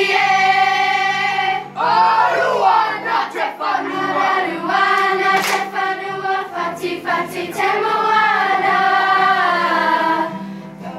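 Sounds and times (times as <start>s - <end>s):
children singing in unison: 0.0s - 10.9s.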